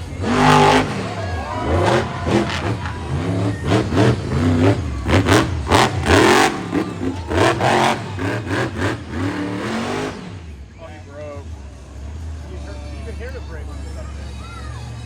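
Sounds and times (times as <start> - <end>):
truck engine revving: 0.0 - 13.1.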